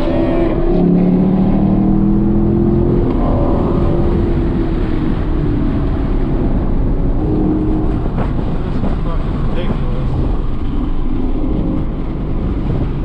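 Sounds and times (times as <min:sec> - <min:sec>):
car engine: 0:00.0 - 0:13.0
road and wind noise: 0:00.0 - 0:13.0.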